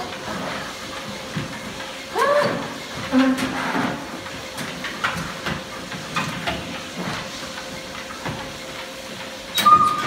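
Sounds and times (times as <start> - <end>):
treadmills running: 0.0 - 10.0.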